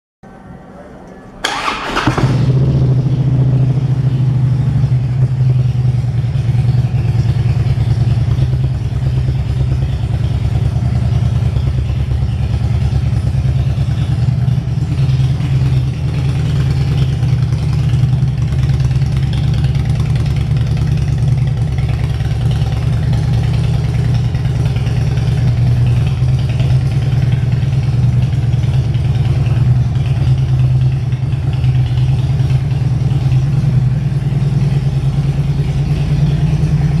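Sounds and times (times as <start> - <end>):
motorcycle engine idling: 1.4 - 37.0.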